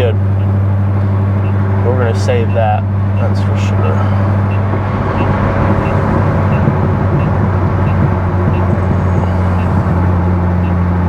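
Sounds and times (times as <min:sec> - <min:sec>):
car engine cruising drone: 0:00.0 - 0:11.0
faint regular ticking: 0:00.0 - 0:11.0
road noise: 0:00.0 - 0:11.0.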